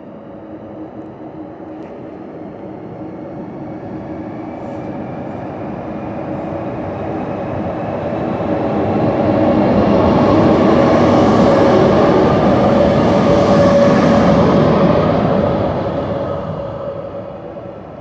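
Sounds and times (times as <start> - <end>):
train passing with humming tones: 0.0 - 18.0.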